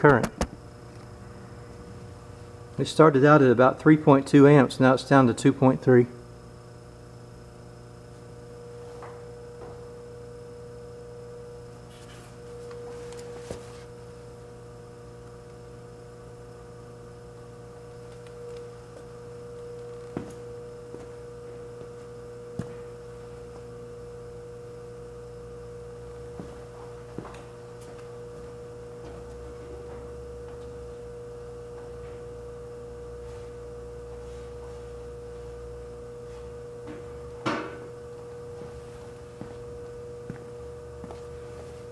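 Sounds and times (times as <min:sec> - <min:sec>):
refrigerator compressor hum: 0:00.0 - 0:41.9.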